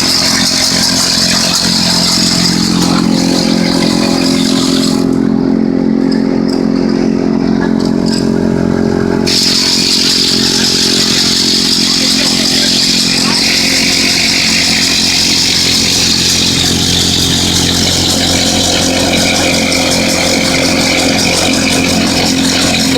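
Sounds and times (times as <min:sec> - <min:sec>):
high grinding hiss: 0:00.0 - 0:05.1, 0:09.2 - 0:22.9
pencil sharpener motor hum: 0:00.0 - 0:05.2, 0:09.2 - 0:22.9.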